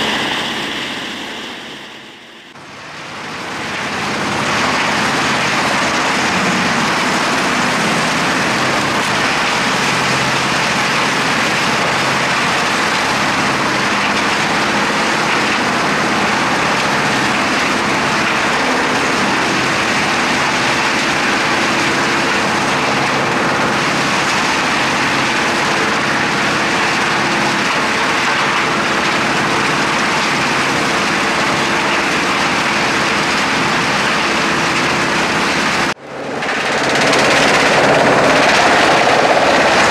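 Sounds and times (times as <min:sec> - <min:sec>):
wood chipper running: 0:02.6 - 0:39.9.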